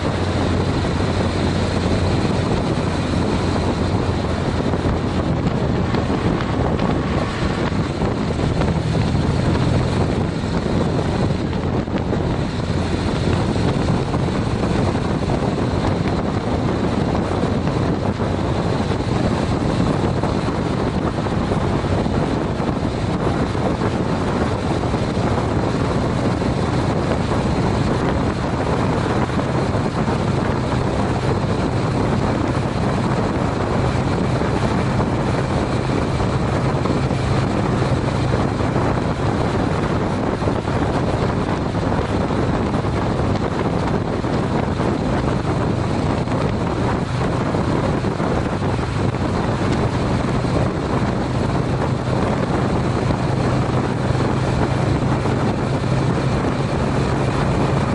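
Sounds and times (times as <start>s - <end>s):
motorcycle engine running: 0.0s - 57.9s
wind rush on microphone: 0.0s - 57.9s.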